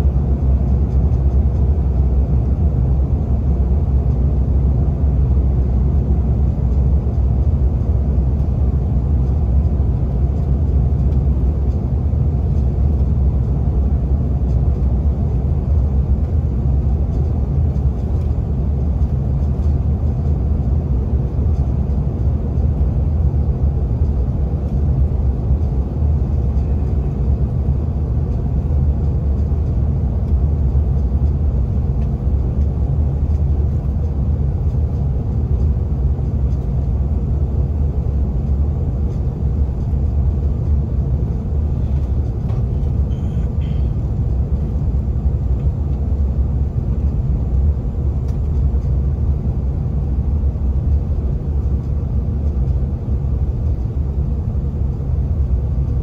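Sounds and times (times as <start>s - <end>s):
jet cabin rumble: 0.0s - 56.0s.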